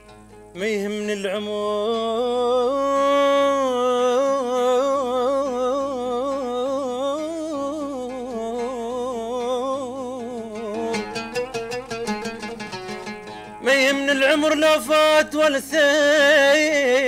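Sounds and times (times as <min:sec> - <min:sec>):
man singing melismatic phrase: 0:00.6 - 0:12.6, 0:13.6 - 0:17.0.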